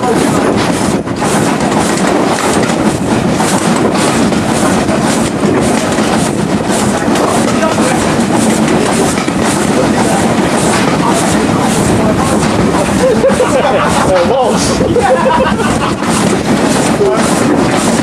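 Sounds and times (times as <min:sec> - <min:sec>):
train wheels clattering on track: 0:00.0 - 0:18.0.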